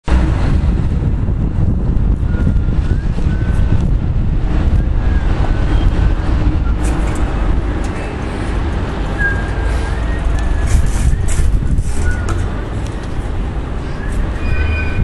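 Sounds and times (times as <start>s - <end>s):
bus engine: 0.0s - 15.0s
wind buffeting microphone: 0.0s - 15.0s.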